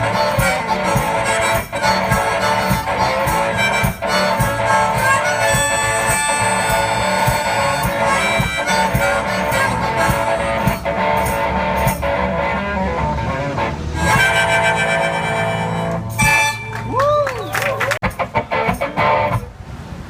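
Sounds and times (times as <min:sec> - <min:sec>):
harmonica playing: 0:00.0 - 0:17.0
steady beat: 0:00.0 - 0:17.2
guitar: 0:00.0 - 0:19.6.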